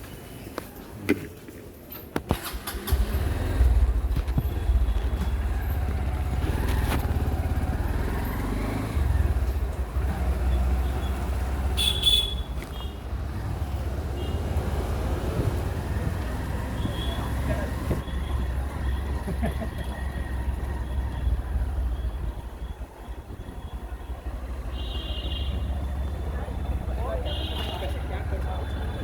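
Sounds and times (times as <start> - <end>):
motor vehicle engine rumbling: 2.3 - 29.0.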